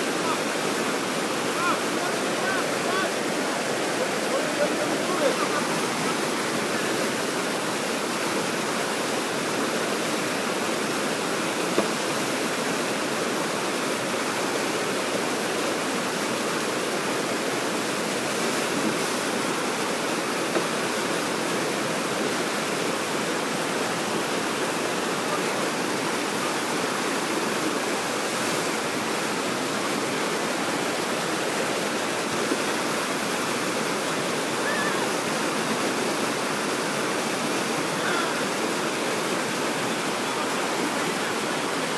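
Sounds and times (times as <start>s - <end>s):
water rushing over a weir: 0.0s - 41.9s.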